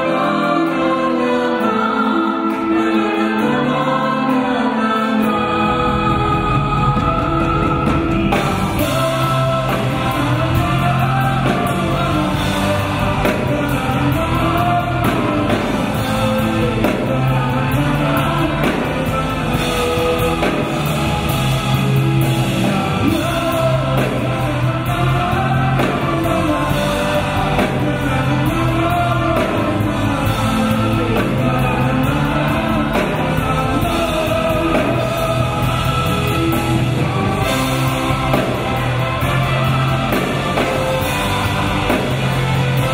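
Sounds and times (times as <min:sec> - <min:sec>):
choir singing: 0:00.0 - 0:42.9
folk instrument orchestra: 0:00.0 - 0:42.9
rock band playing: 0:00.0 - 0:42.9.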